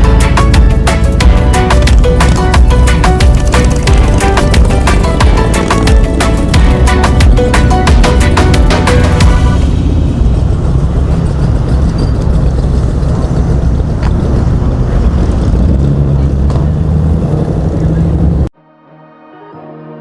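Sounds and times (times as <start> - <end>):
car engine rumbling: 0.0 - 18.5.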